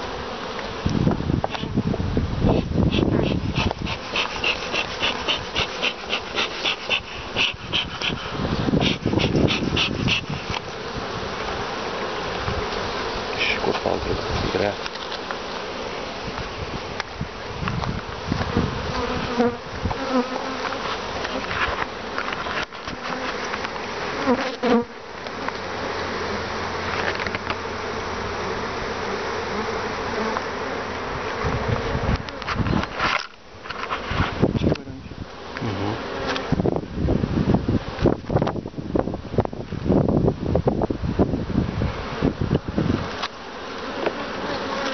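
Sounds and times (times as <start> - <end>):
single bee buzzing past: 0.0 - 40.1, 41.0 - 44.9
honeybees buzzing: 0.0 - 44.9.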